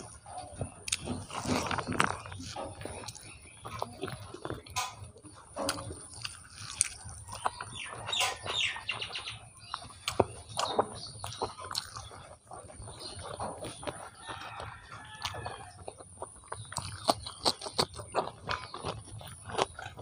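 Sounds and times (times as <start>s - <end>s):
person chewing wetly: 0.0s - 20.0s.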